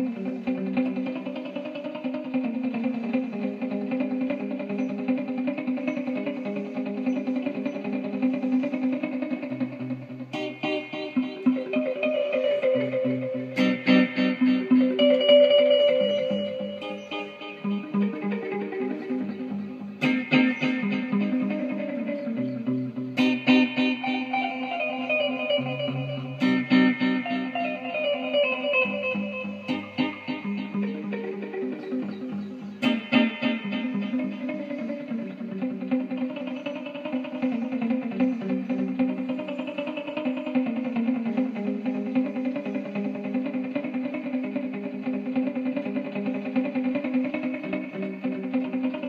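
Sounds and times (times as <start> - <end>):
plucked guitar music: 0.0 - 49.0.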